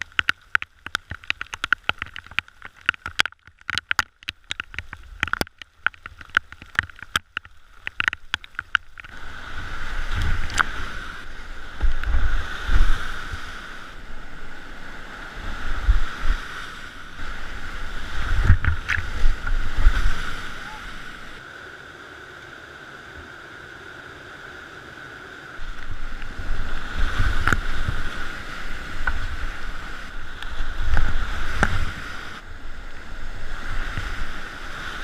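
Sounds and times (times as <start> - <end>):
whitewater rushing: 6.1 - 35.0.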